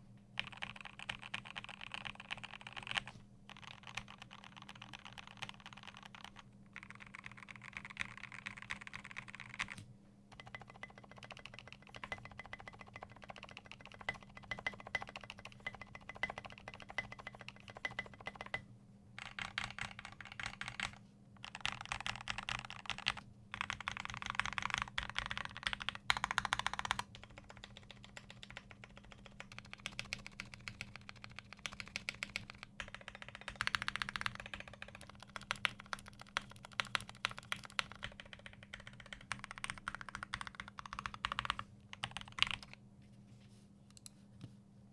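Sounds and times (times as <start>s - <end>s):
mechanical keyboard typing: 0.4s - 18.6s, 19.2s - 42.8s.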